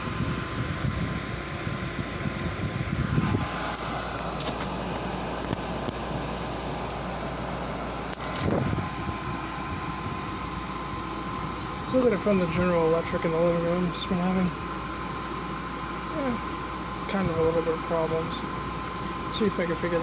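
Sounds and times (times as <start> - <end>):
air conditioner fan running: 0.0 - 20.0
thin steady whine: 0.0 - 20.0.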